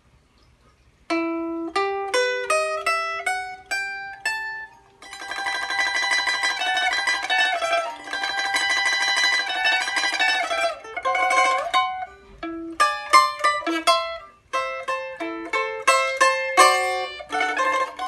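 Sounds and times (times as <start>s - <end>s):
plucked lute notes: 1.1s - 18.0s.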